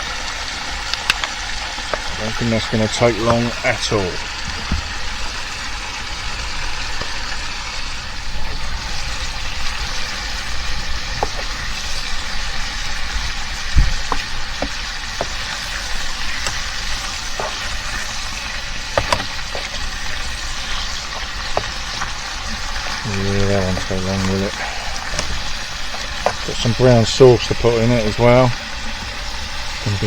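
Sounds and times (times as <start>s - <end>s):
bacon sizzling in a frying pan: 0.0s - 30.0s
fat spitting and crackling: 0.6s - 7.2s, 8.4s - 30.0s.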